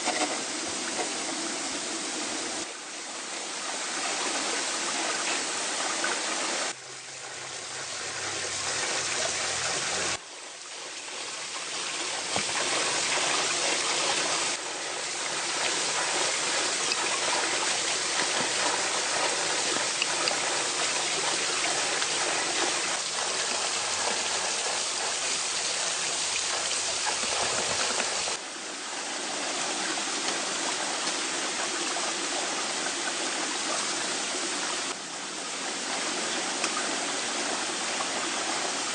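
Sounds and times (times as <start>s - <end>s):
forest stream rushing: 0.0s - 38.9s.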